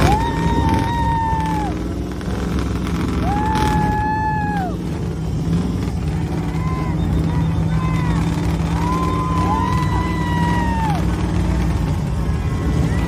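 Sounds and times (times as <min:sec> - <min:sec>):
rumble of engines: 0:00.0 - 0:13.0.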